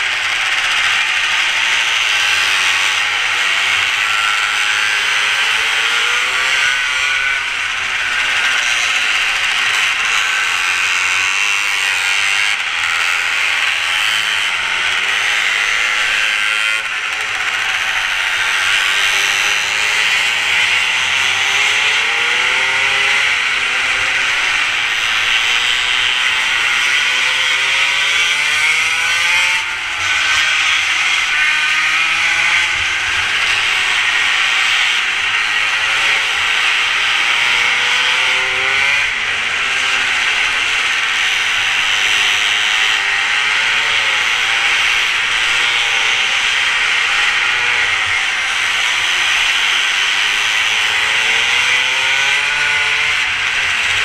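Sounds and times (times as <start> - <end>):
mini motorbike engine buzzing: 0.0 - 54.0.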